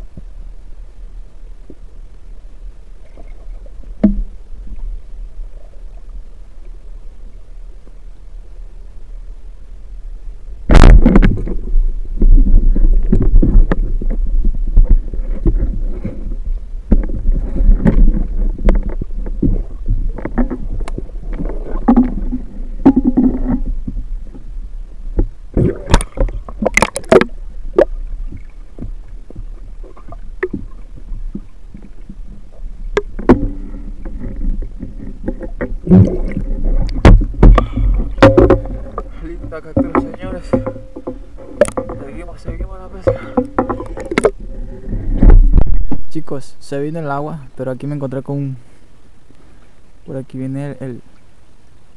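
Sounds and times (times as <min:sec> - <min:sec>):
muffled underwater rumble and sloshing: 0:00.0 - 0:51.9.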